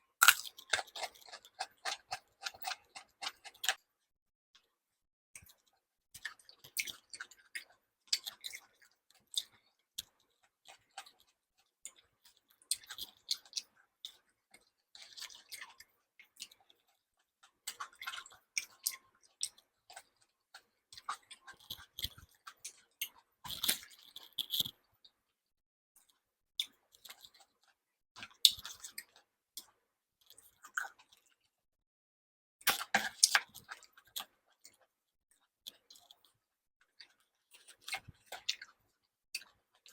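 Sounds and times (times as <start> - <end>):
person chewing and smacking: 0.2 - 3.9, 5.4 - 24.8, 26.6 - 31.5, 32.6 - 34.9, 35.7 - 39.9.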